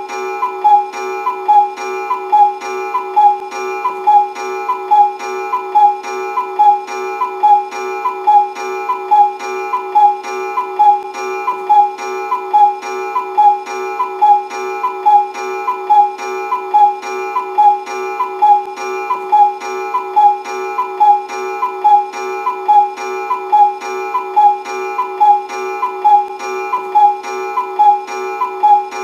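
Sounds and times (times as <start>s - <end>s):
cuckoo clock calling: 0.0s - 29.0s
steady held tone: 0.0s - 29.0s.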